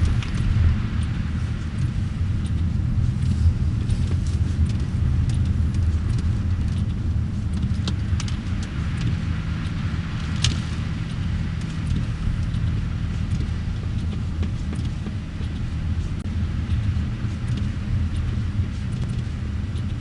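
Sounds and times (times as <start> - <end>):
car engine and tyres rumble: 0.0 - 20.0.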